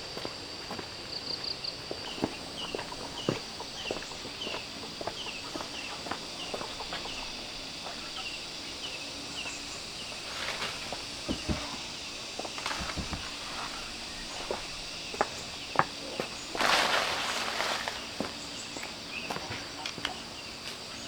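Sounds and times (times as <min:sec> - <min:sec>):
footsteps on the ground: 0:00.0 - 0:21.0.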